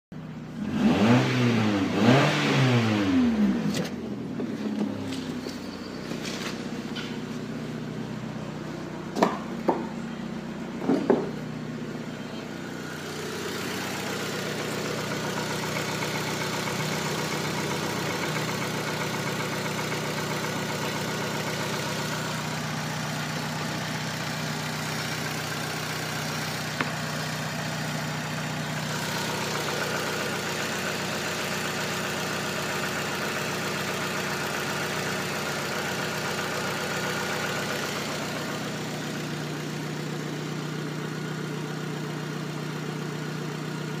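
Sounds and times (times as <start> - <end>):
car engine idling: 0.2 - 44.0.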